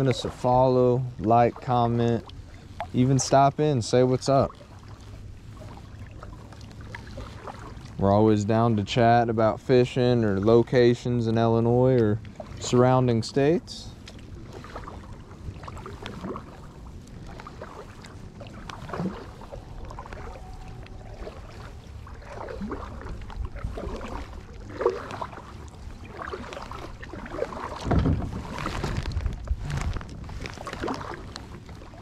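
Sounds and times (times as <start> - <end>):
paddle strokes swishing water: 0.0 - 32.0
wind rumble on microphone: 0.0 - 32.0.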